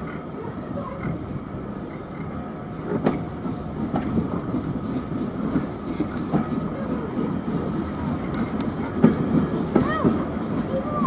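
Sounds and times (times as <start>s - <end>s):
train rumbling along track: 0.0s - 11.0s
wheels knocking over rail joints: 0.0s - 11.0s.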